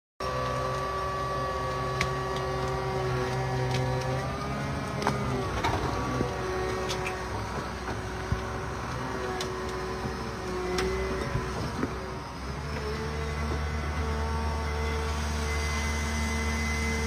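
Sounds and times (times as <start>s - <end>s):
wood-cutting machine humming: 0.2s - 17.0s.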